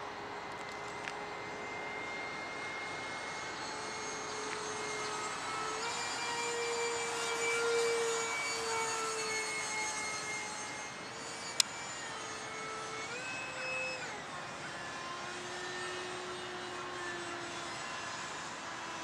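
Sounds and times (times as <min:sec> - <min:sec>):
electric ducted fan whine: 0:00.0 - 0:19.0.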